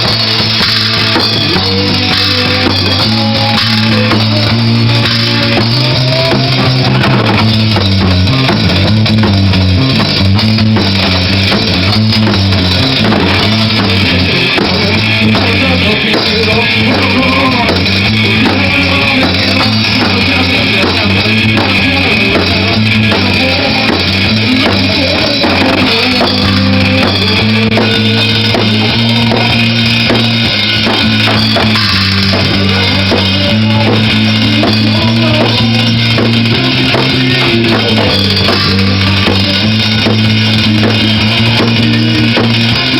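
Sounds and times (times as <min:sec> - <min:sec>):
bass line: 0:00.0 - 0:42.9
drum kit: 0:00.0 - 0:42.9
electric guitar: 0:00.0 - 0:42.9.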